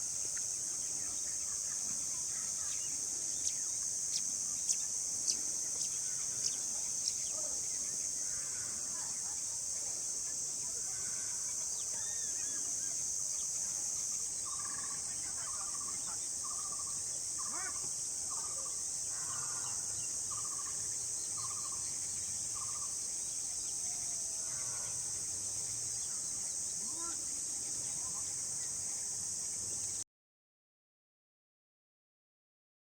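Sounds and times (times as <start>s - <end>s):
faint chirps: 0.0s - 30.0s
insects droning: 0.0s - 30.0s.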